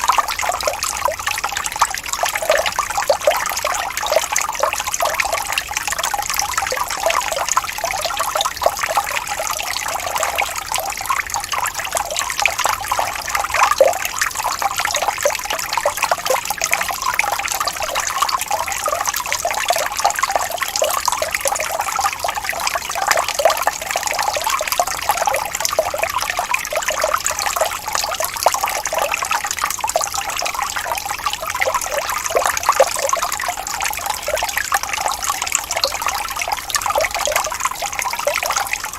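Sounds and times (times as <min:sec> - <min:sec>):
stream of running water: 0:00.0 - 0:38.9.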